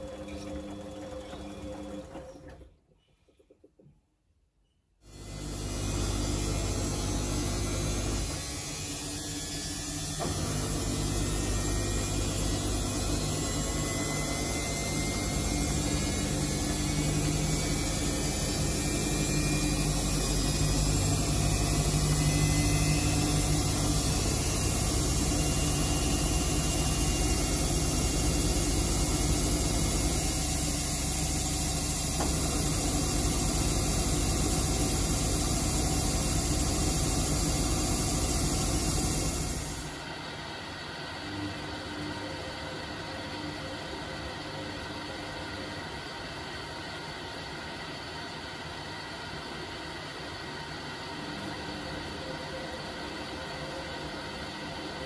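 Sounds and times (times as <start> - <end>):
washing machine spin cycle: 0.0 - 2.8, 5.1 - 55.0.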